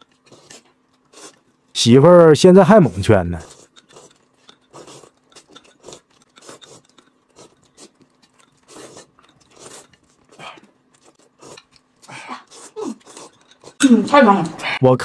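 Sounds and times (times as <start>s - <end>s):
noodles being slurped: 0.0s - 1.7s, 2.6s - 13.9s
food being chewed: 0.0s - 1.8s, 2.9s - 13.8s.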